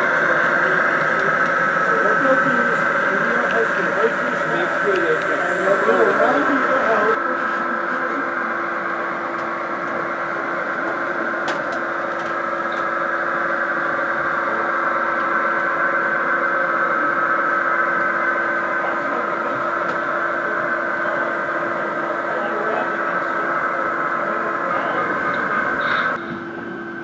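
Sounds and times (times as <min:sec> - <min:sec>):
model train humming: 0:00.0 - 0:27.0.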